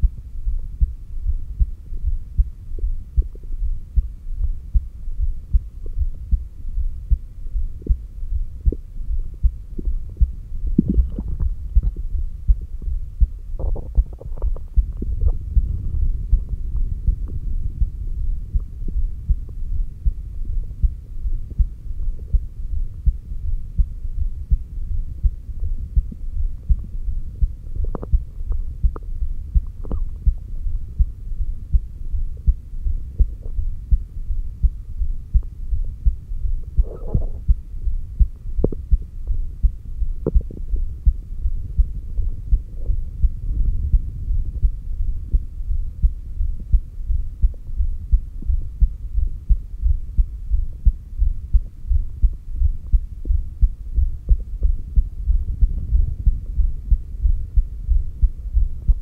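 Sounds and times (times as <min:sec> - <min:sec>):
heartbeat thumps: 0:00.0 - 0:59.0.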